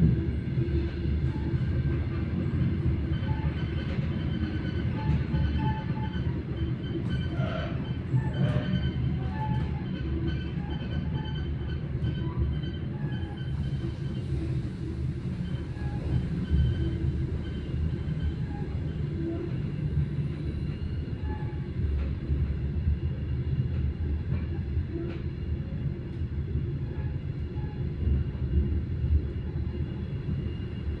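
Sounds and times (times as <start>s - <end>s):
train carriage rumbling: 0.0s - 31.0s.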